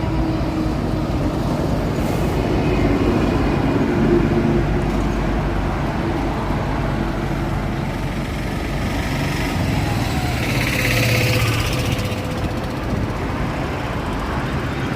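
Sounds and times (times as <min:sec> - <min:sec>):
vehicle engines running: 0:00.0 - 0:14.9.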